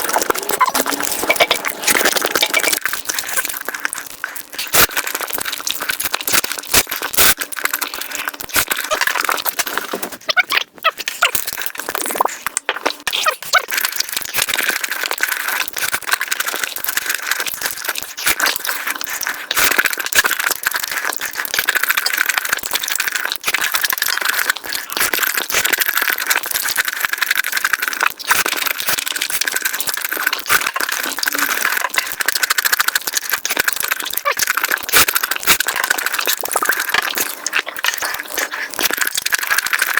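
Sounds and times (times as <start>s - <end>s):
fast chewing and crunching: 0.0s - 39.9s.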